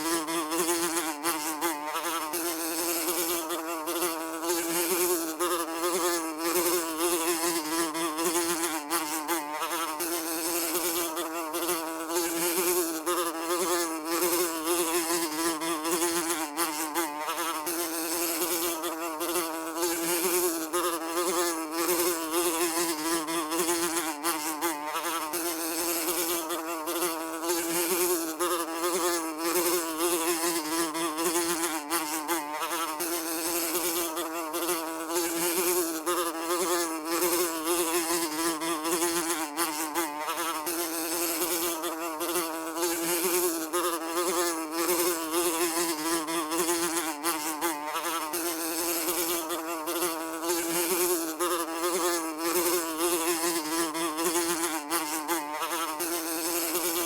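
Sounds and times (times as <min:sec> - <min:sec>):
fly buzzing: 0:00.0 - 0:57.0.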